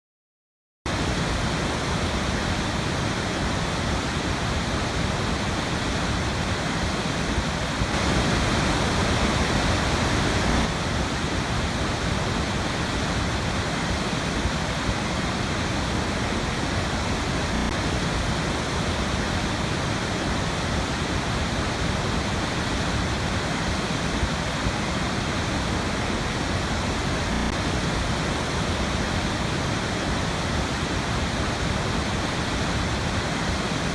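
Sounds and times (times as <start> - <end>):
waterfall rushing: 0.9 - 33.9.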